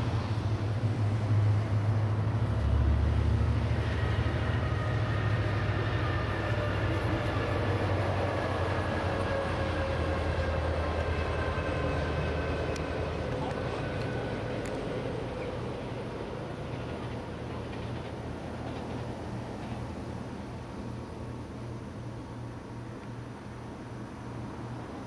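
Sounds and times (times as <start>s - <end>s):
diesel train engine drone: 0.0s - 25.0s.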